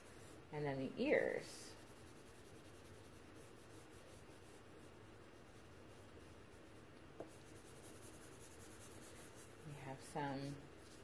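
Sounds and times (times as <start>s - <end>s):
charcoal scratching on paper: 0.0s - 11.0s.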